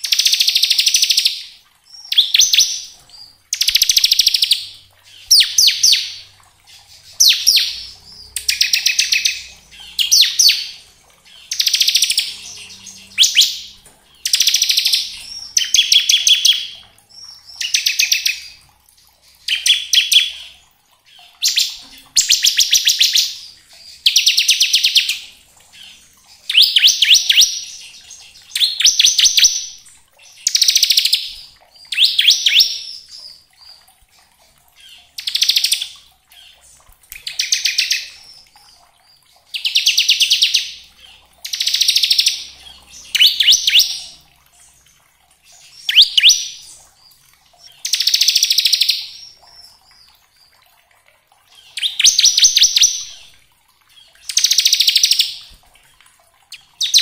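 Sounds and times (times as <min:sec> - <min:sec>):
bird rattling song: 0:02.0 - 0:18.6, 0:19.2 - 0:38.7, 0:39.4 - 0:44.8, 0:51.5 - 0:53.3, 0:53.9 - 0:57.0.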